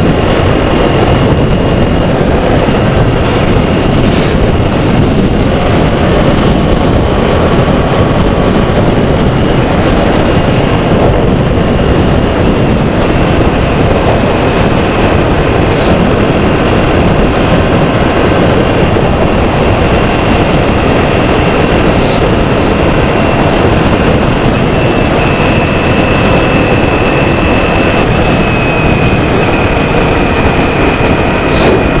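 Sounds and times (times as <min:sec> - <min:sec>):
motorcycle engine cruising: 0:00.0 - 0:32.0
wind rush on microphone: 0:00.0 - 0:32.0.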